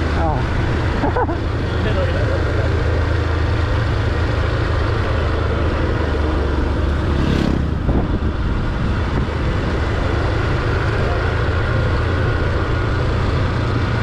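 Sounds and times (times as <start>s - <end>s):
motorcycle engine rumble: 0.0s - 14.0s
rushing wind: 0.0s - 14.0s.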